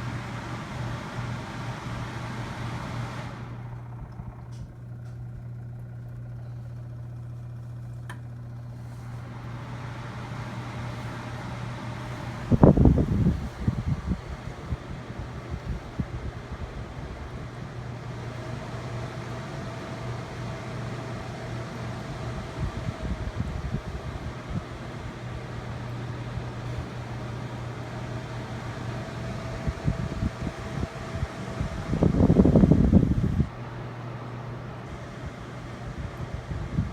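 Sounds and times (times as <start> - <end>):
air cooler fan humming: 0.0 - 36.9.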